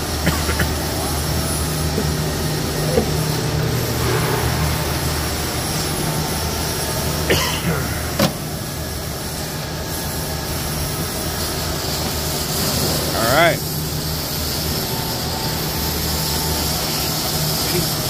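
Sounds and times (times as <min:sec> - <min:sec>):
workshop hum: 0:00.0 - 0:18.0.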